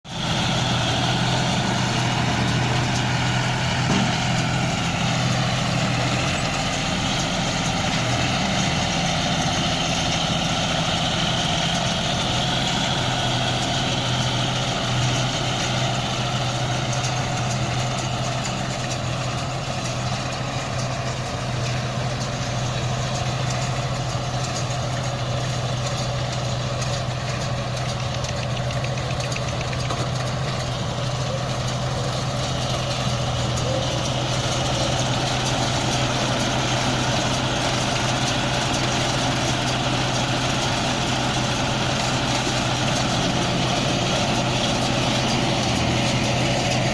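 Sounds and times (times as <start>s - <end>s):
tractor engine running: 0.0s - 46.9s
baler machinery noise: 0.1s - 46.9s.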